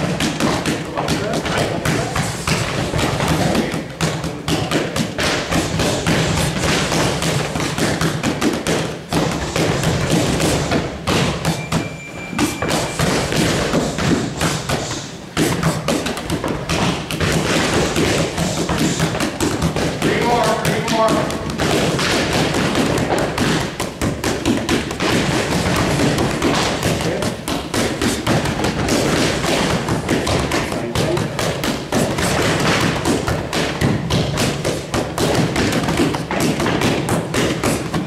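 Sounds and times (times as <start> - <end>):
boxing gloves thudding on mitts: 0.0 - 38.0.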